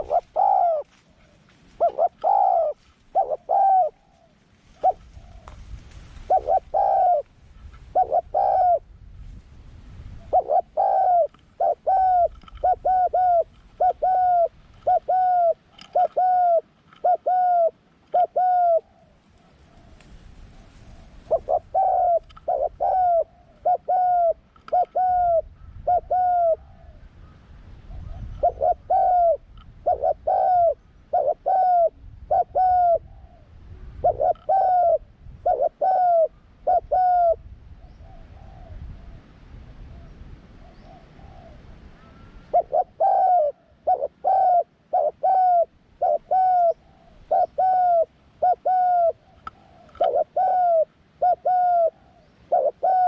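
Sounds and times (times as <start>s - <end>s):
dove cooing: 0.0s - 8.9s, 10.1s - 39.2s, 39.9s - 53.0s.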